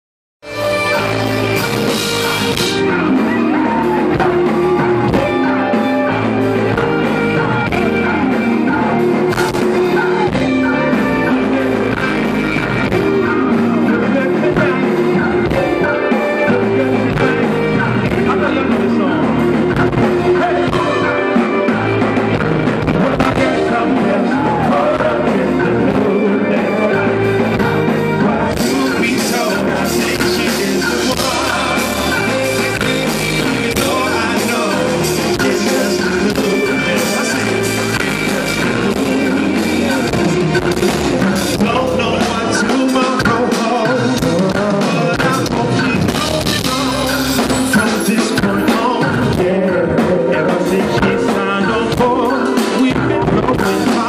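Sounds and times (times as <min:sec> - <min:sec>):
drums: 0:00.4 - 0:54.0
keyboards: 0:00.4 - 0:54.0
man singing into microphone: 0:00.4 - 0:54.0.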